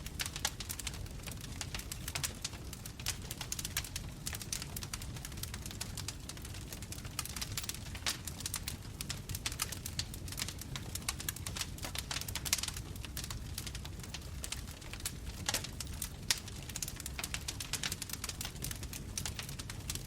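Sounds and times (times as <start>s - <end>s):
burning wood crackling and popping: 0.0s - 20.0s
wood fire burning: 0.0s - 20.0s.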